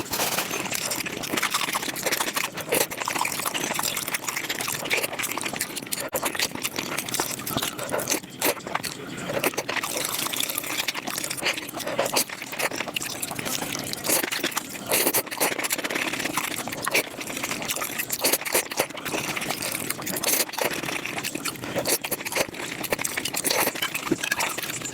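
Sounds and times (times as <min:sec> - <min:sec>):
fast chewing and slurping: 0:00.0 - 0:24.9.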